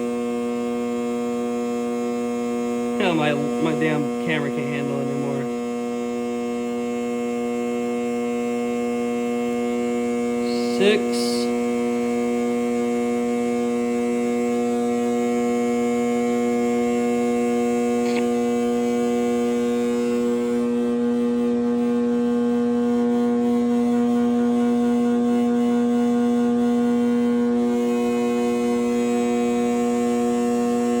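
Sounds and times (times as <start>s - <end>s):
electrical lamp hum: 0.0s - 31.0s.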